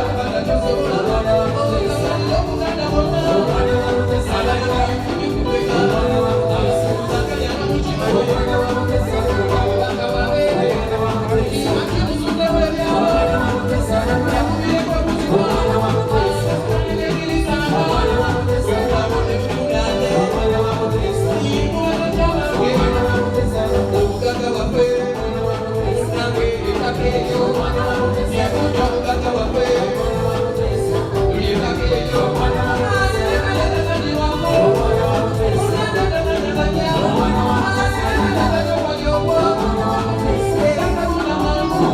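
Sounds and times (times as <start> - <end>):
live band playing dance music: 0.0 - 41.9
person singing: 0.0 - 41.9.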